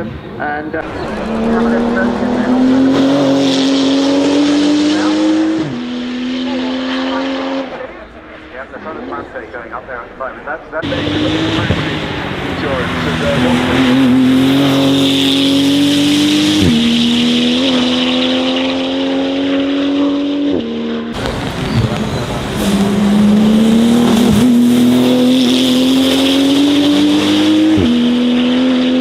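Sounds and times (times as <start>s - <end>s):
car engine at full throttle: 0.0s - 29.0s.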